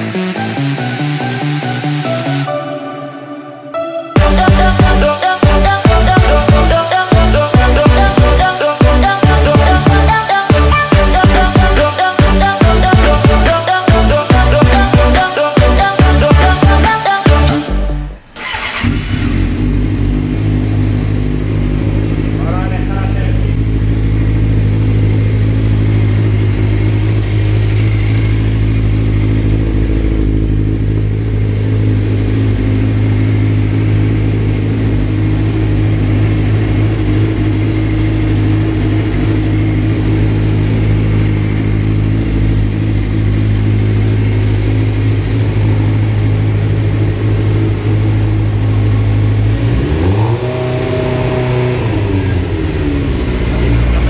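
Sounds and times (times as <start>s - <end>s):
engine revving: 0.0s - 2.5s, 4.2s - 54.0s
motorcycle engine idling: 4.2s - 54.0s.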